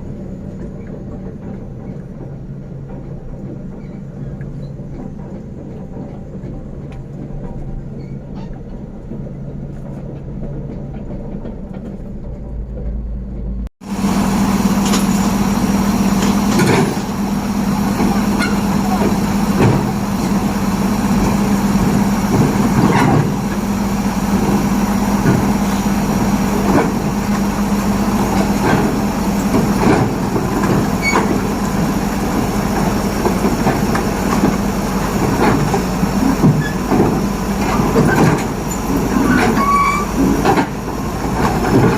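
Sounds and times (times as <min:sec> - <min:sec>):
bulldozer diesel engine running: 0:00.0 - 0:41.9
steel tracks clanking: 0:00.0 - 0:41.9.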